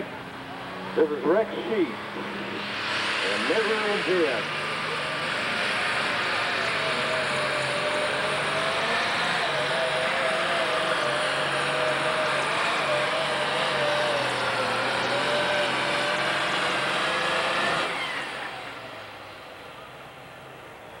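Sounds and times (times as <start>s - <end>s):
diesel engine running flat out: 0.0s - 21.0s
supercharger whine: 0.0s - 21.0s.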